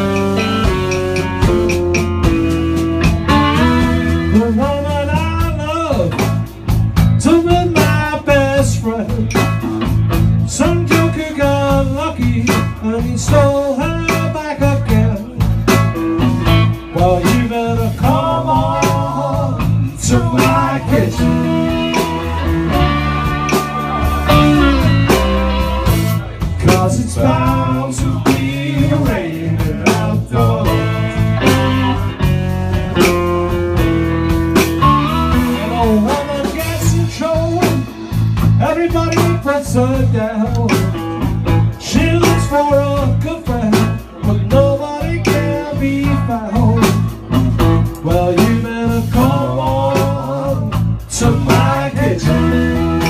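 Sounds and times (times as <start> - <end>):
blues band playing: 0.0 - 53.0
slide guitar: 0.0 - 53.0.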